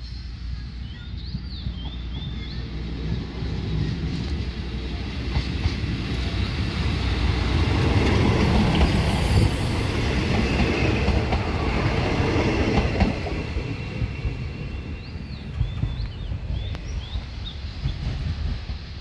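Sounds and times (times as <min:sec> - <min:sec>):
train engine and wheels rumbling: 0:00.0 - 0:19.0.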